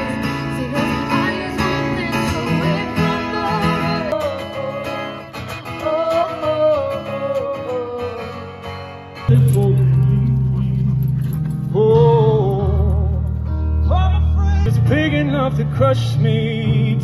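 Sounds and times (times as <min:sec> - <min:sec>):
person singing: 0:00.0 - 0:08.7, 0:09.3 - 0:17.0
acoustic guitar: 0:00.0 - 0:17.0.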